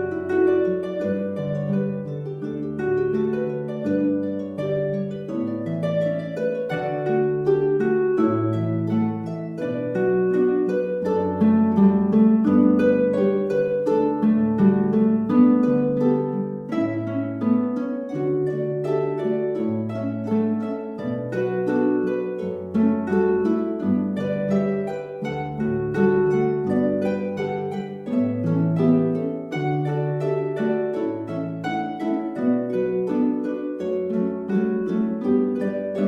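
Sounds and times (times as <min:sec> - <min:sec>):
plucked harp-like strings: 0:00.0 - 0:36.0.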